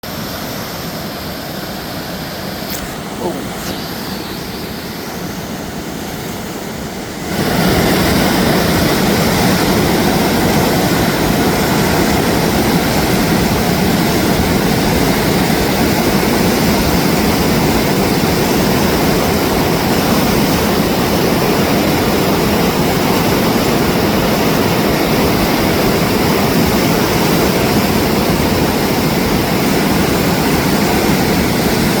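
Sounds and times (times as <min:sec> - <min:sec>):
rushing river water: 0:00.0 - 0:32.0.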